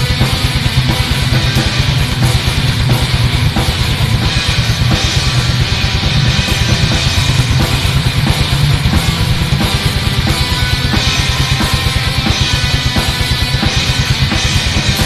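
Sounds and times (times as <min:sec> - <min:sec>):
distorted guitars: 0:00.0 - 0:15.0
rapid kick drum: 0:00.0 - 0:15.0.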